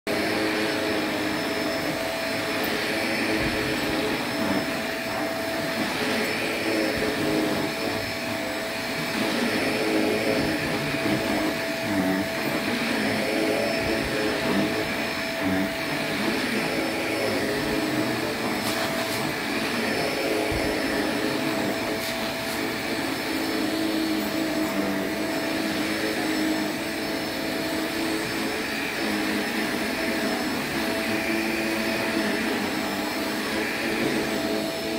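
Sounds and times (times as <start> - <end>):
upright vacuum cleaner running: 0.1 - 34.9.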